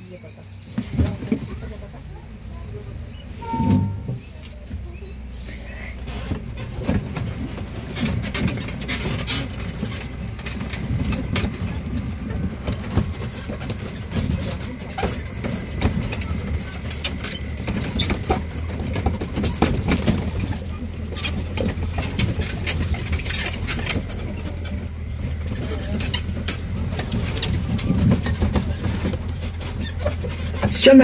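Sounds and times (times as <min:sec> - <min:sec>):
carriages rattling and knocking: 0:00.0 - 0:31.0
train carriages rumbling on track: 0:00.0 - 0:31.0.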